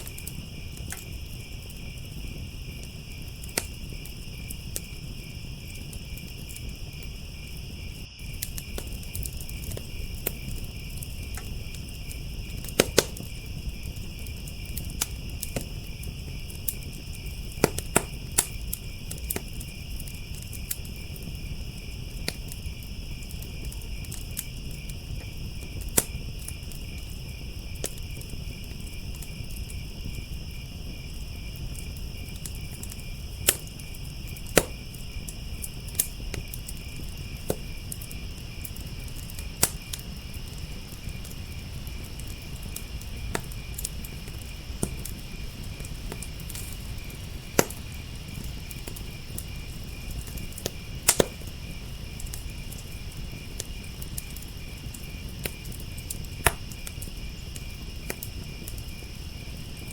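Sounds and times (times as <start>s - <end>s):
crickets chirping: 0.0s - 59.9s
wood fire crackling: 0.0s - 59.9s.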